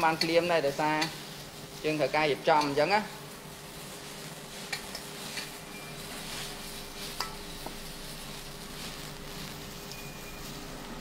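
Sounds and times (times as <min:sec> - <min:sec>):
plastic glove rustling: 0:00.0 - 0:11.0.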